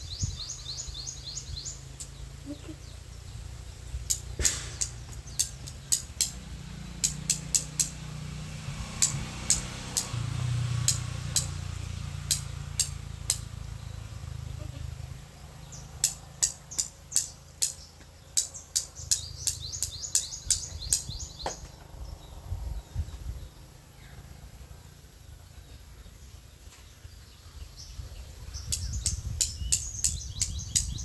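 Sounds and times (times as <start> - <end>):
bird chirping: 0.0 - 24.4, 25.2 - 31.0
steady low rumble: 0.0 - 26.0.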